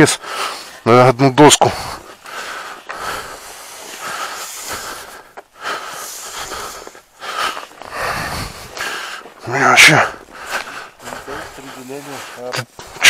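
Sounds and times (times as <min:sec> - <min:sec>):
man breathing hard: 0:00.0 - 0:00.8, 0:01.6 - 0:13.0.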